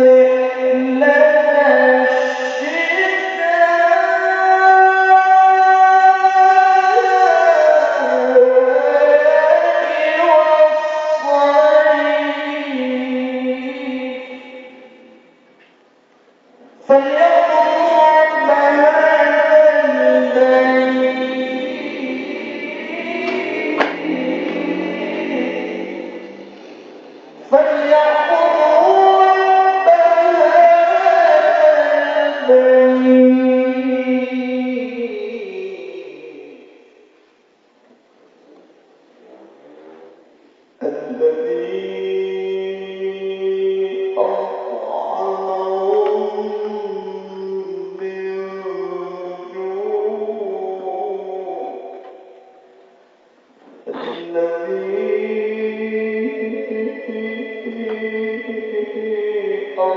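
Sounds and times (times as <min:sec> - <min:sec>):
man chanting into a microphone: 0:00.0 - 0:15.5, 0:16.5 - 0:37.2, 0:39.5 - 0:52.8, 0:53.8 - 0:59.9
man reciting melodically: 0:00.0 - 0:37.4, 0:40.1 - 0:59.9.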